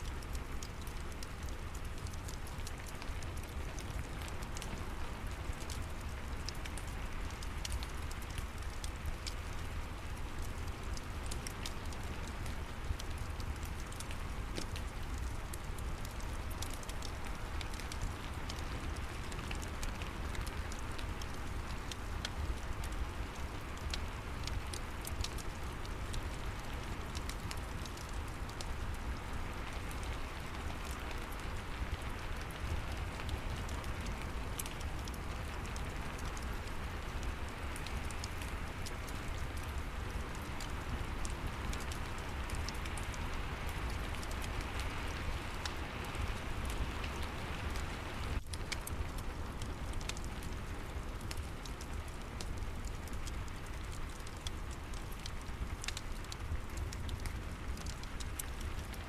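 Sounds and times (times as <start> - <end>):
fireplace crackling: 0.0 - 59.0
steady rain: 0.0 - 59.0.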